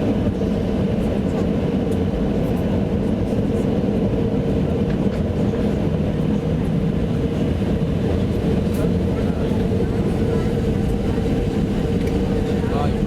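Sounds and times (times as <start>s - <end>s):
airliner cabin engine hum: 0.0s - 13.0s.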